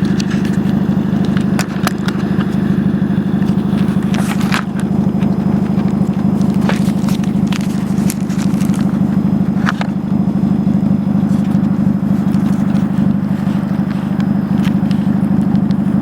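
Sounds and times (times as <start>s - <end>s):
car exhaust idling: 0.0s - 16.0s.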